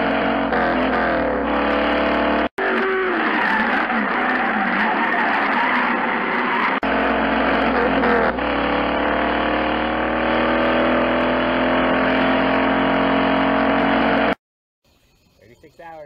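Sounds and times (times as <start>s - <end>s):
car engine hum: 0.0s - 14.4s
tyres on gravel road: 0.0s - 14.4s.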